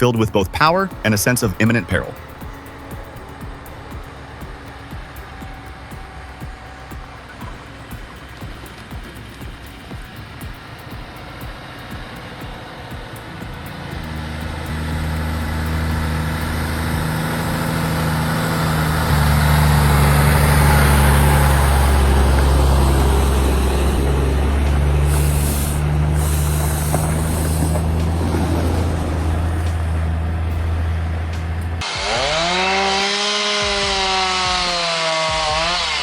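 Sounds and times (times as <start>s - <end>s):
rushing noise: 0.0s - 36.0s
truck diesel engine drone: 0.0s - 36.0s.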